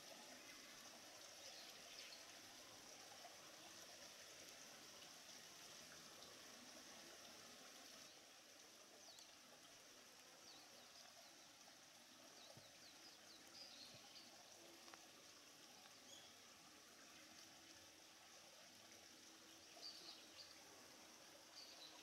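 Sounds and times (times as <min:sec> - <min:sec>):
low outdoor hiss: 0:00.0 - 0:22.0.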